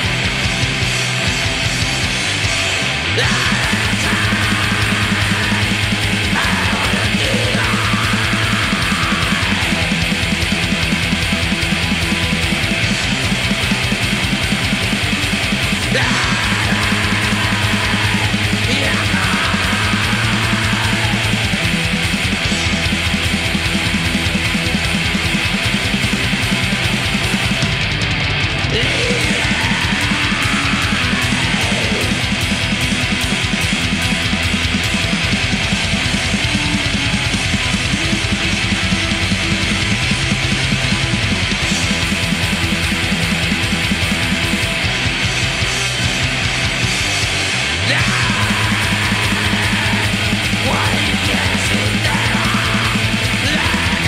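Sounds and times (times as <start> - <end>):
distorted guitars: 0.0 - 54.0
fast dense drumming: 0.0 - 54.0.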